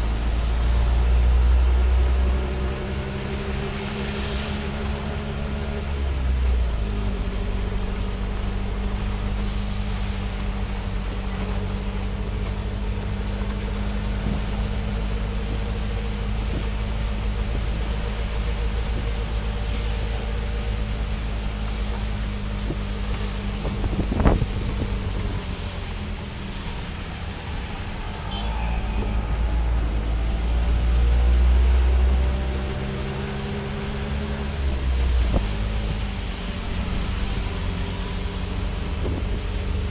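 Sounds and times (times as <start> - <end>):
tyres hissing on wet road: 0.0 - 39.9
vehicle engine running: 0.0 - 39.9.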